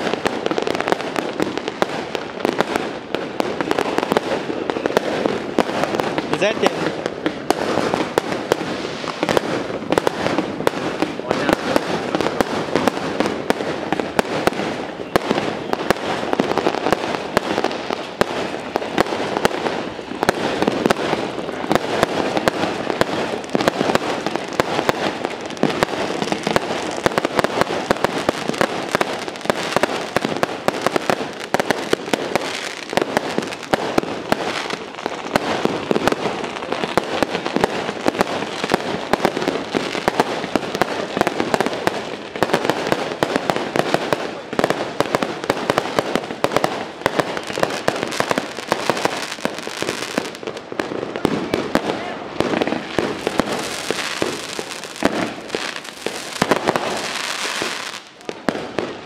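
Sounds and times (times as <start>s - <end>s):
firecrackers banging: 0.0s - 59.0s.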